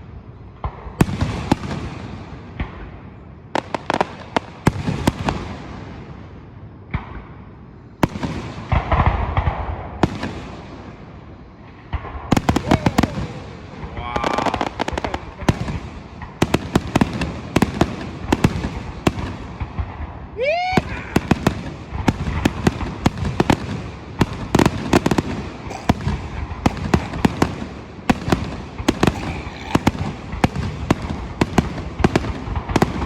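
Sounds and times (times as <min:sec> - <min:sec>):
fireworks bursting with bangs: 0:00.0 - 0:07.4, 0:08.0 - 0:33.0
crackling firework reports: 0:00.0 - 0:33.0.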